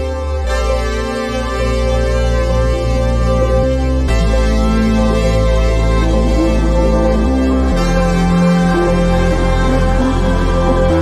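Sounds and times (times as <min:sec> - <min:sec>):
low bass notes: 0:00.0 - 0:11.0
synthesizer chords: 0:00.0 - 0:11.0.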